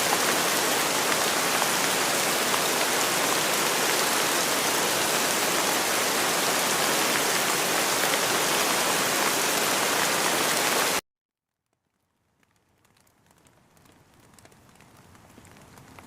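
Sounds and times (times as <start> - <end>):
dense rain falling: 0.0 - 11.0, 11.8 - 16.0
faint raindrops pattering: 0.0 - 16.0.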